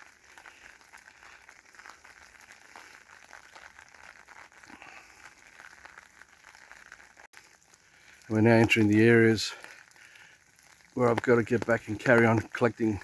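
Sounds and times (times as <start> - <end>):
rain pattering on umbrella: 0.0 - 13.0.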